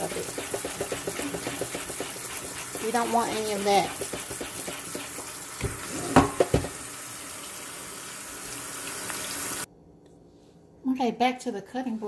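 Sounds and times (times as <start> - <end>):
tap water running on potatoes: 0.0 - 9.7.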